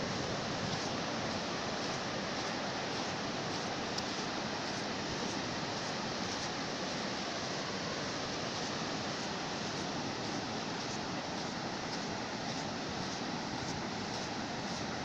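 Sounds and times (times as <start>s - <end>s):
sea surf waves: 0.0s - 15.0s.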